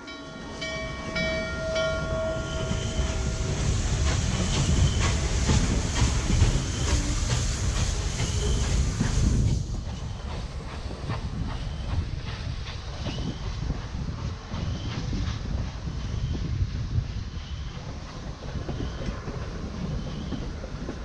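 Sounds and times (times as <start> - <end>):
locomotive rumbling past: 0.0 - 21.0
steam locomotive exhaust beats: 0.0 - 21.0
train wheels clicking over rail joints: 0.6 - 21.0.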